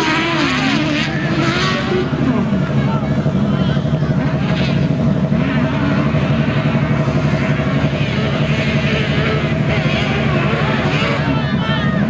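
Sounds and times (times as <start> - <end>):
race car engines rumbling: 0.0 - 12.0.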